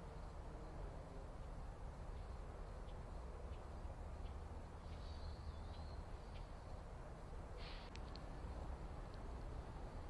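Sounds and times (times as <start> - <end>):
low outdoor rumble and hiss: 0.0 - 10.0.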